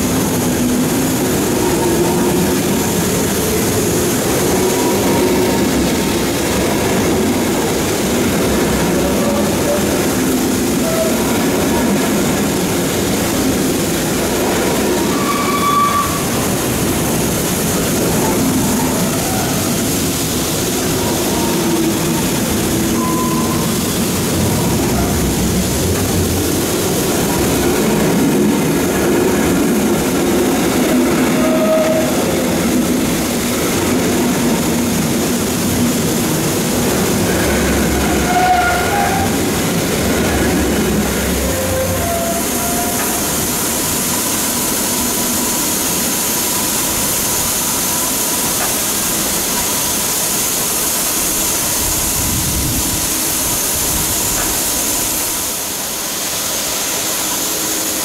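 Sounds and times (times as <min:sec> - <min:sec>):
wheels squealing on rails: 0:00.0 - 0:56.4
train rumbling: 0:00.0 - 0:58.0.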